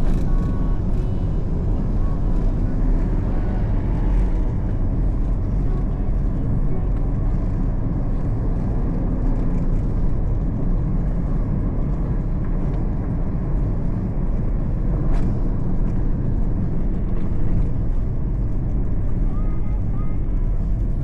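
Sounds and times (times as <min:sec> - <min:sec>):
vehicle engines running: 0:00.0 - 0:21.0.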